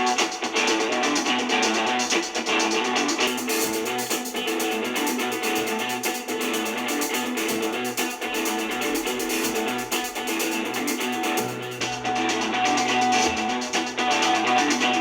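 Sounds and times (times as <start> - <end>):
guitar song through small speaker: 0.0 - 15.0.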